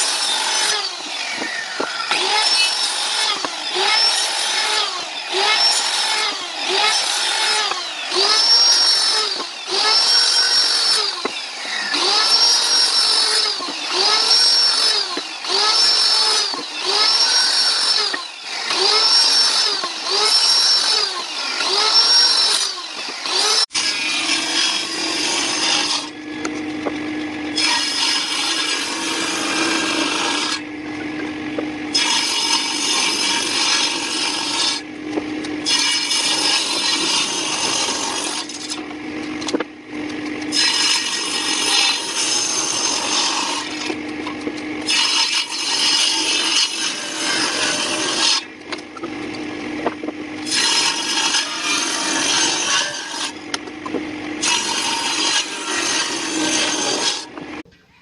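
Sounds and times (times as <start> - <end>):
tool humming: 0.0 - 57.8.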